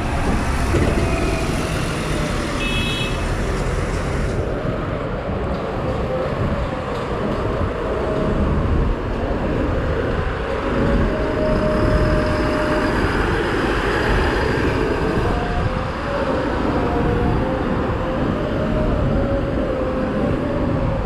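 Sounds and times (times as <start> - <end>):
bus engine drone: 0.0 - 21.0
road traffic: 0.0 - 21.0.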